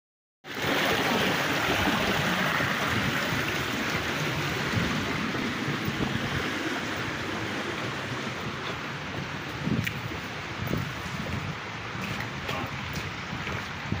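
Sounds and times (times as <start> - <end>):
creek water splashing over rocks: 0.5 - 14.0.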